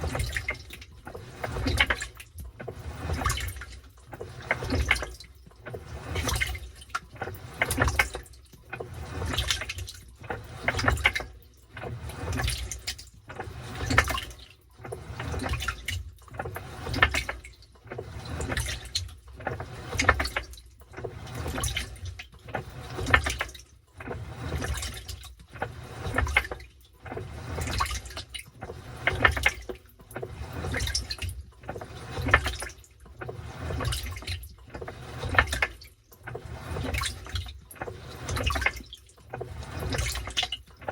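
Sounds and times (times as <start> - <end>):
washing machine water sloshing: 0.0 - 40.9.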